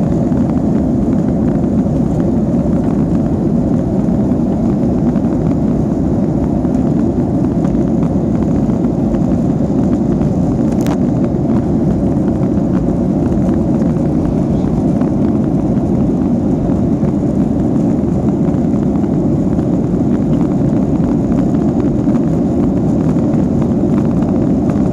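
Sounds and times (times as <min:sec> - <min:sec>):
airplane cabin engine noise: 0:00.0 - 0:24.9.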